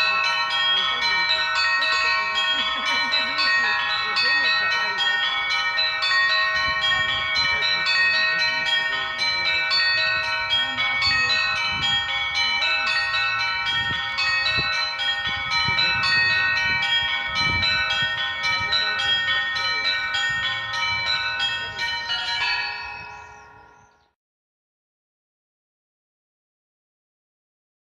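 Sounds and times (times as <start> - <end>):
small bells struck quickly: 0.0 - 24.1
large bells ringing: 0.0 - 24.2.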